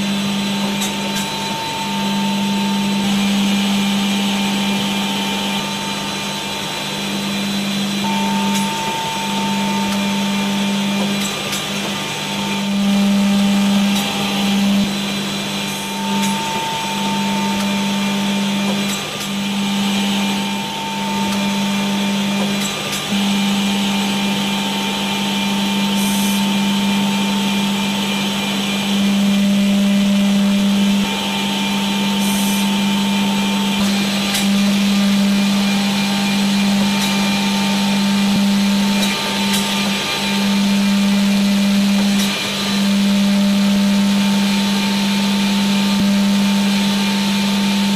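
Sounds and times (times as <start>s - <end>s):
machine motor drone with hiss: 0.0s - 47.9s.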